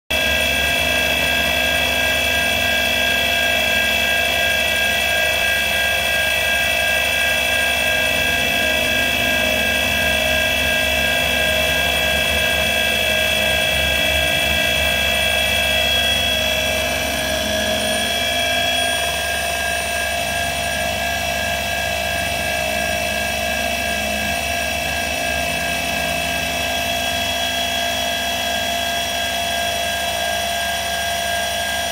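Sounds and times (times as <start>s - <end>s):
milling machine whine: 0.1s - 31.9s.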